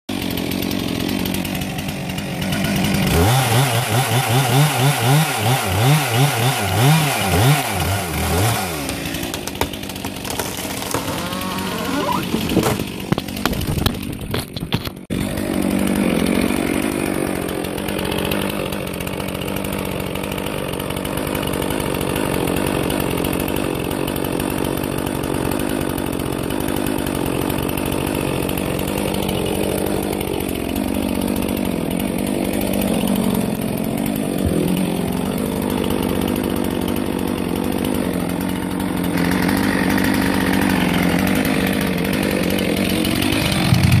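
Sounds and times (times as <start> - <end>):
chainsaw running: 0.1 - 44.0.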